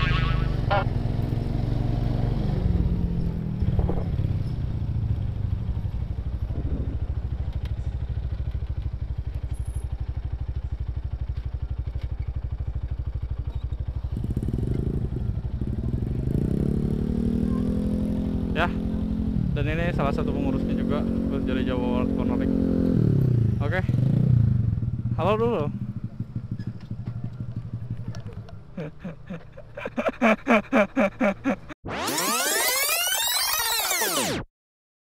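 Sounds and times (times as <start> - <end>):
motorcycle engine running: 0.0 - 30.1.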